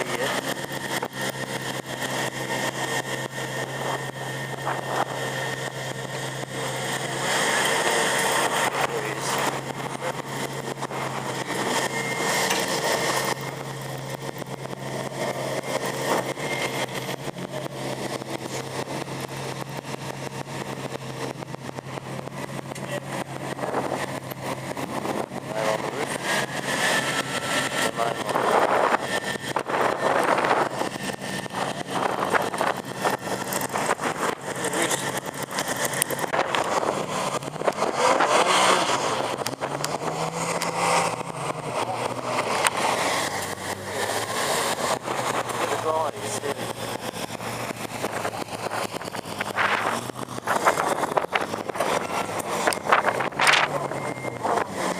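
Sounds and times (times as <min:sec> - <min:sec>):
car engines idling: 0:00.0 - 0:54.9.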